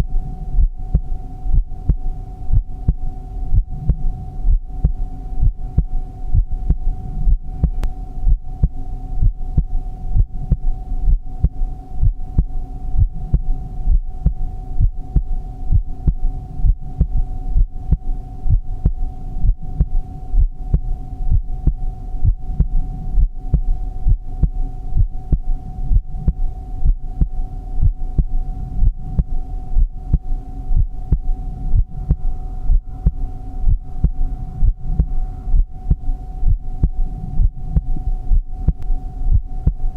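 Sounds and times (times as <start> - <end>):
continuous hum: 0.0 - 39.9
heartbeat thumps: 0.0 - 39.9.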